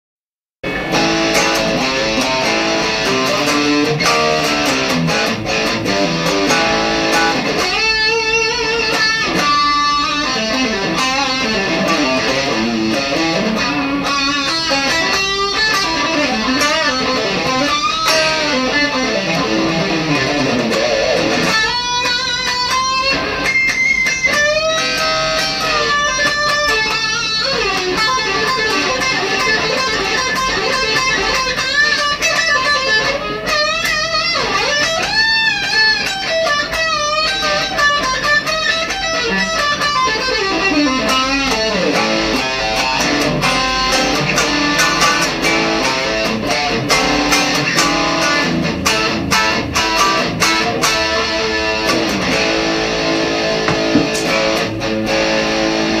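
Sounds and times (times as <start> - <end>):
overdriven electric guitar: 0.6 - 56.0.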